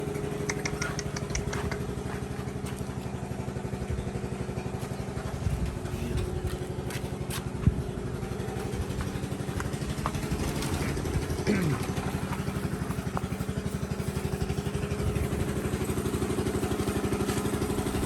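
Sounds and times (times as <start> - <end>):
small engine puttering: 0.0 - 18.0.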